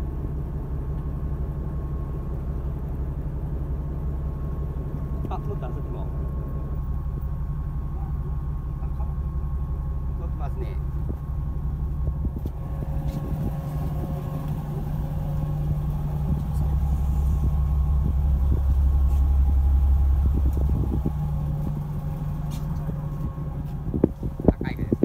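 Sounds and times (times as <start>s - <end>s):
boat engine drone: 0.0s - 25.0s.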